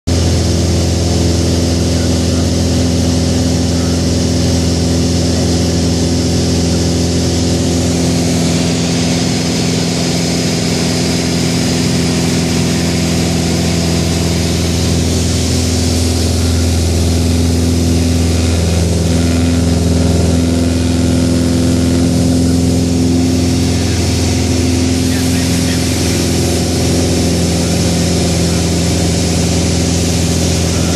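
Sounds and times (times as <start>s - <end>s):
aircraft engine drone: 0.1s - 30.9s.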